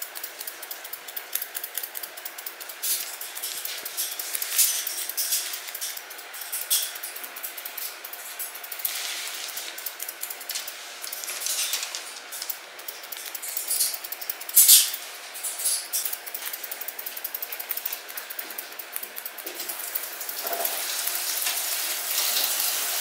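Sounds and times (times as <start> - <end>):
scissors snipping dog fur: 0.0 - 21.5.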